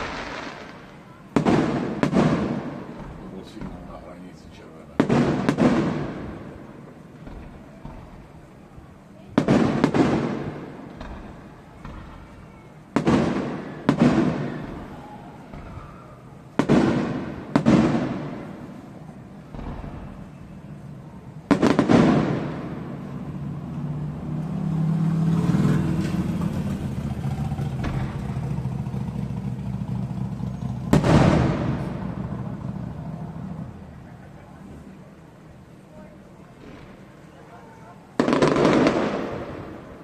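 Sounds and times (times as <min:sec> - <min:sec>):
firework bangs echoing: 0:00.0 - 0:40.0.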